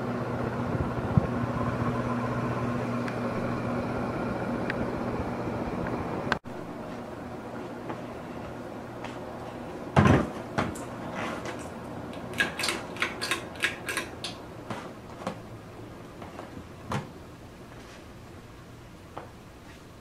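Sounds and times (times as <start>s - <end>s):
ceiling fan humming: 0.0s - 20.0s.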